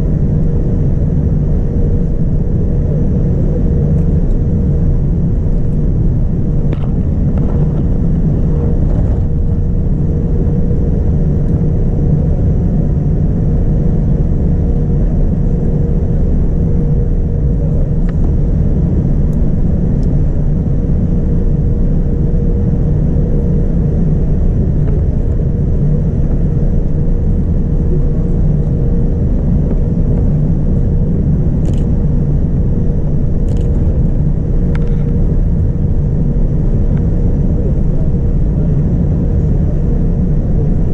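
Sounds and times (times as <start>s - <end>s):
aircraft cabin engine rumble: 0.0s - 40.9s
faint steady hum: 0.0s - 40.9s.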